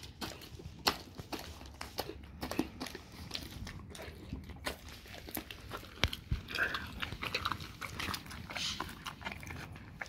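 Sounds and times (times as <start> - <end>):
dog chewing: 0.0 - 10.0
teeth and jaws clicking: 0.0 - 10.0.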